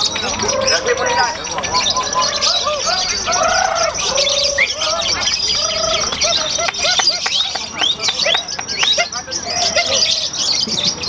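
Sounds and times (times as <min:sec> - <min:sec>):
lovebirds chattering and chirping: 0:00.0 - 0:11.0.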